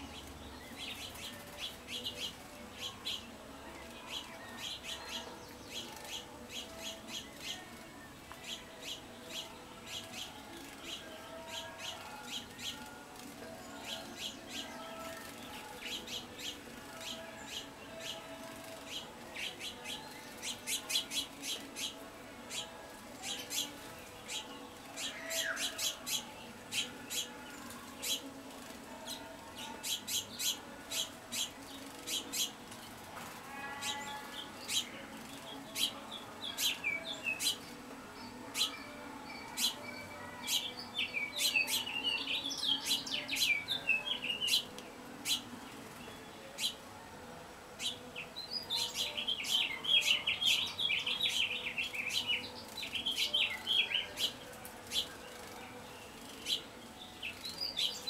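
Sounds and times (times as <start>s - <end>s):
birds twittering and warbling: 0.0s - 58.0s.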